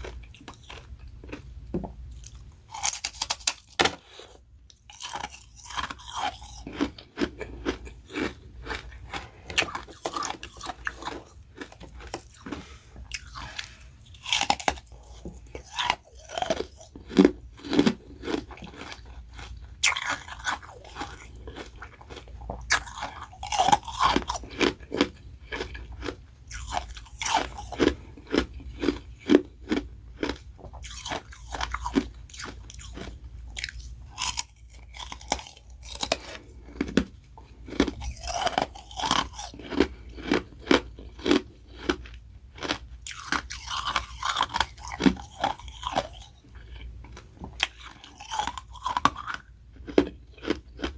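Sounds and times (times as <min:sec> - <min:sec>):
ice crunching and chewing: 0:00.0 - 0:50.9.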